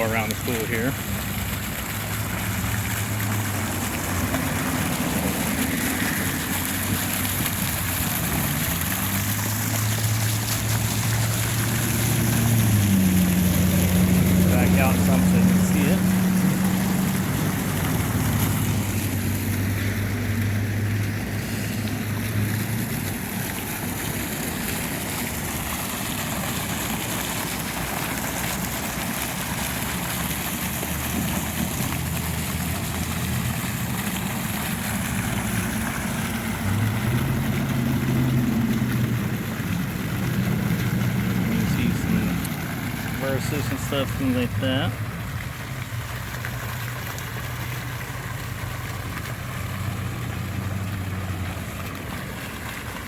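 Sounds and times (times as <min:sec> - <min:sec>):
road noise: 0:00.0 - 0:53.0
vehicle engine humming: 0:00.0 - 0:53.0.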